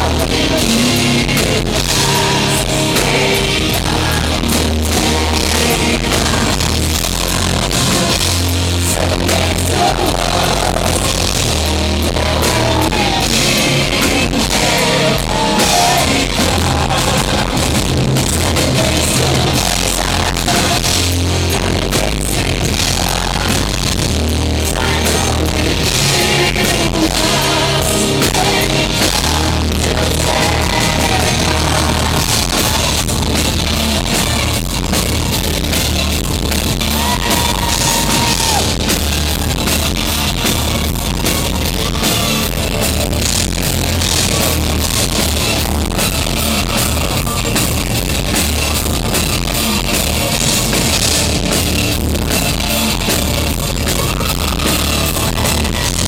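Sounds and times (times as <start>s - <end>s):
metal band playing live: 0.0s - 56.0s.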